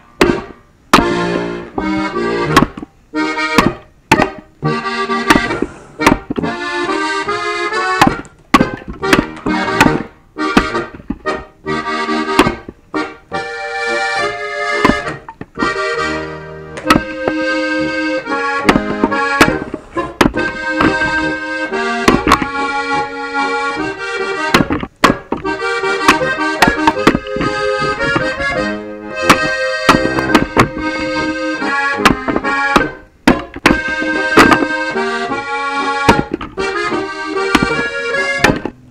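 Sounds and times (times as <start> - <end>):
accordion music: 0.0 - 38.9
axe splitting firewood: 0.2 - 13.1, 14.7 - 15.8, 16.8 - 38.8.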